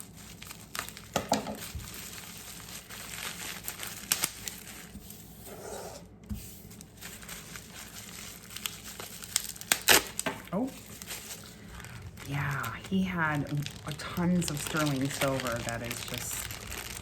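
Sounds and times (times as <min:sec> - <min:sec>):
packaging crinkling: 0:00.0 - 0:05.3, 0:06.6 - 0:17.0.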